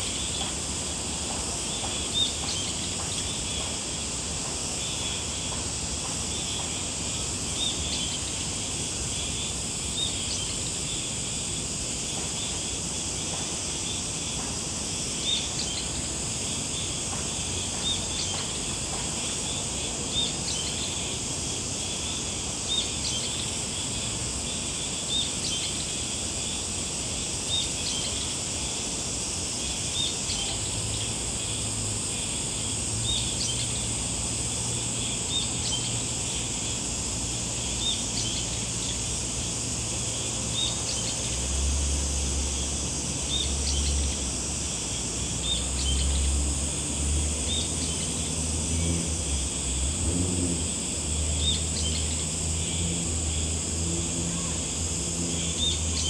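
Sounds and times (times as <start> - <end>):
insect chirp: 0.0 - 56.0
insect drone: 0.0 - 56.0.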